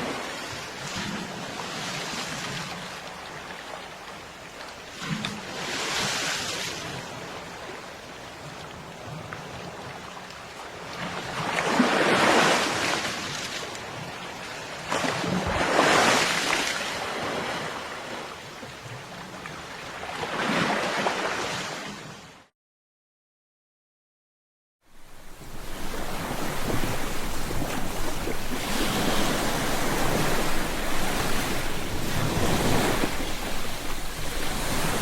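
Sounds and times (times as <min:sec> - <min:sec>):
ocean waves breaking on beach: 0:00.0 - 0:04.2, 0:04.8 - 0:22.5, 0:24.9 - 0:35.0.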